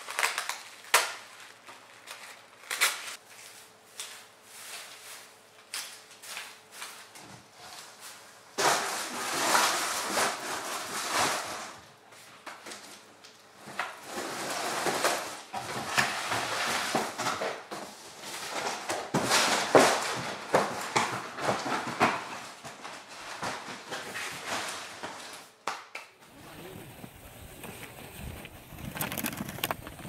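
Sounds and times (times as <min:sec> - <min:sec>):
plastic branches rustling: 0:00.0 - 0:25.5.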